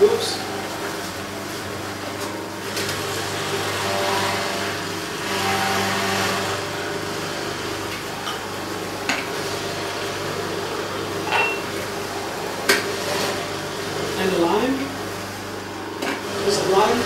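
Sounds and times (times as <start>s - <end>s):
electric juicer motor running: 0.0s - 17.0s.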